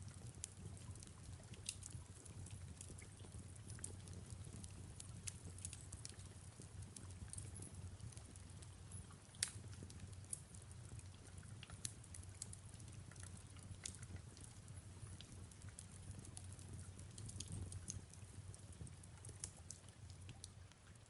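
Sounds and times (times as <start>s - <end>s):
fireplace crackling: 0.2s - 21.0s.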